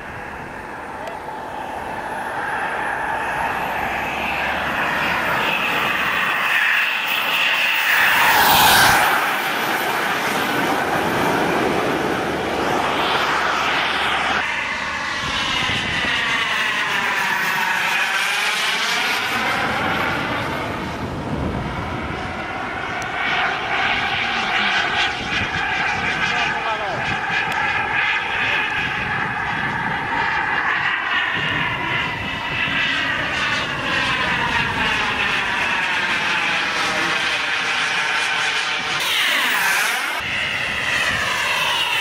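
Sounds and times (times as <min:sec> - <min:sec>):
model jet turbine whine: 0:00.0 - 0:42.0.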